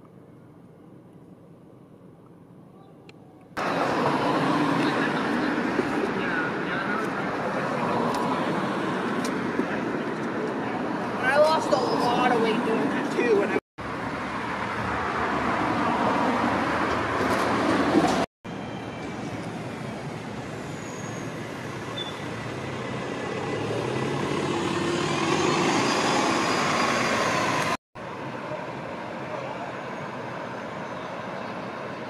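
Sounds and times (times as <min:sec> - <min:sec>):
street traffic passing: 0:00.0 - 0:32.0.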